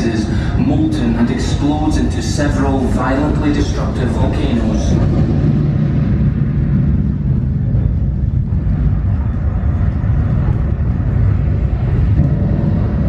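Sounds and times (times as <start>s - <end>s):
loud deep rumble: 0.0s - 13.0s.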